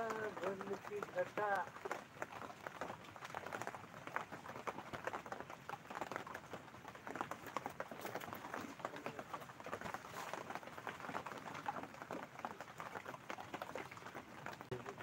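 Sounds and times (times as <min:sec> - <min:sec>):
rain pattering and dripping: 0:00.0 - 0:15.0.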